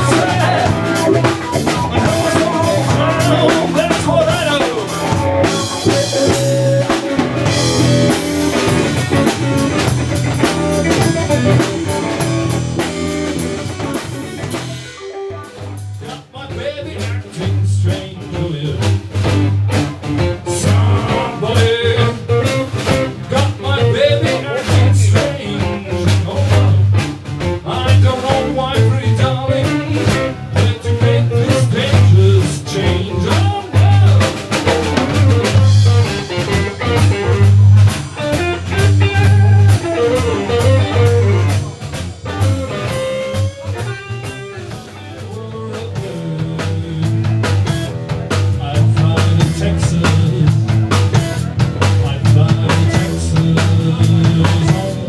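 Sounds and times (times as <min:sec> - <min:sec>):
drums: 0:00.0 - 0:55.0
electric guitar lead with bending notes: 0:00.0 - 0:55.0
pulsing bass line: 0:00.0 - 0:55.0.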